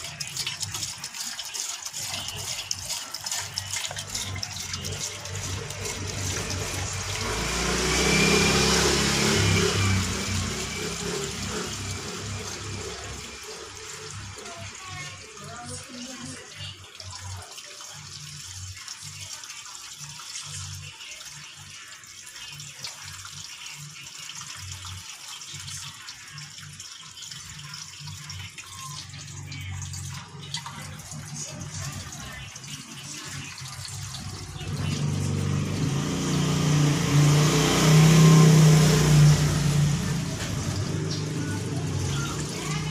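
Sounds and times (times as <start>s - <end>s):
fuel pouring through a funnel: 0.0s - 42.9s.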